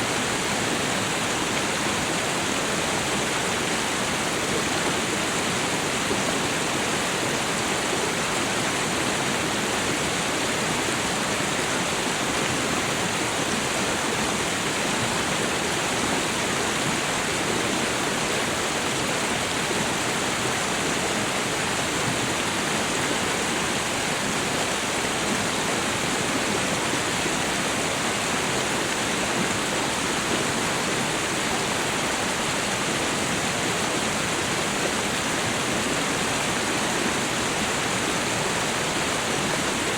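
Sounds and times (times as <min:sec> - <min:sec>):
water rushing over waterfall: 0:00.0 - 0:39.9.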